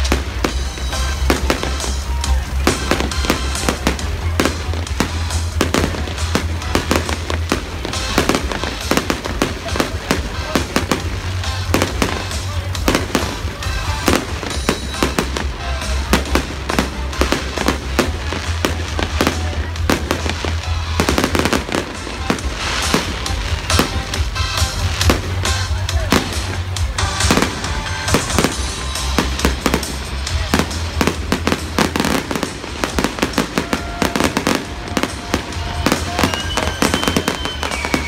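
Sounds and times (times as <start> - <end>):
fireworks bangs and crackles: 0.0 - 38.0
music playing: 0.0 - 38.0.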